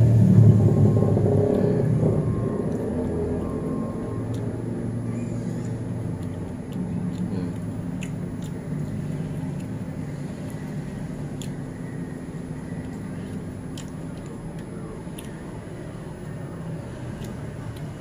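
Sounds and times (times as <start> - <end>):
cars passing close by: 0.0 - 18.0
road traffic rumble: 0.0 - 18.0.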